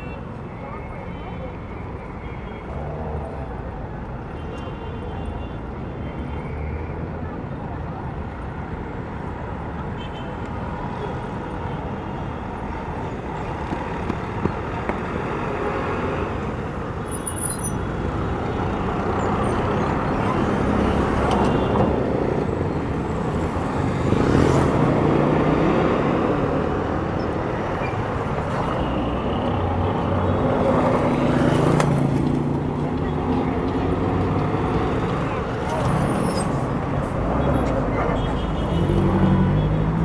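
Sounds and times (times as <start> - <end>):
passing cars: 0.0 - 40.0.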